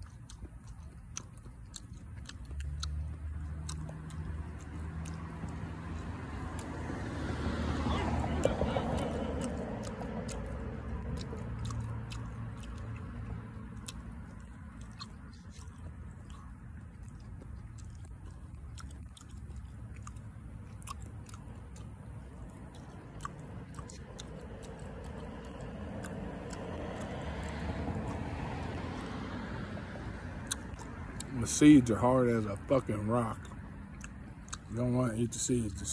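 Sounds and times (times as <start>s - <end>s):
person chewing: 0.0s - 35.9s.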